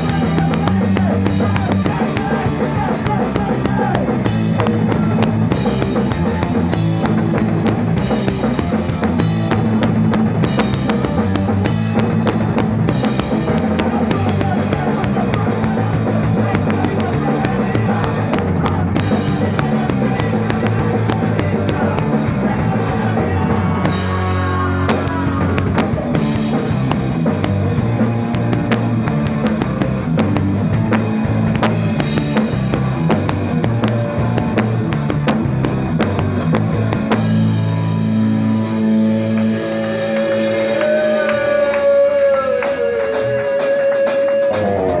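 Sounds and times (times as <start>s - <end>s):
rock band playing live: 0.0s - 45.0s.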